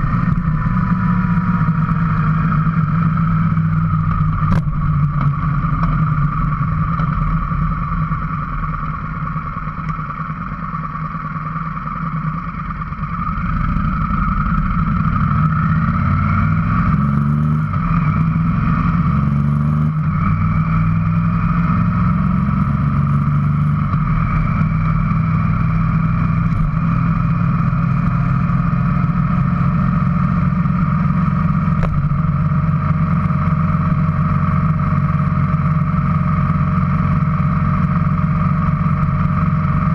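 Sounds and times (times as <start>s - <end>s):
motorcycle engine shifting gears: 0.0s - 10.5s, 12.7s - 39.9s.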